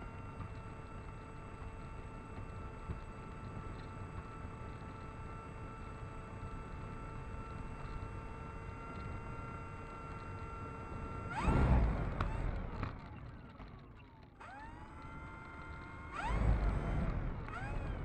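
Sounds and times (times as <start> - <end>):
electric motor and propeller whine: 0.0 - 18.0.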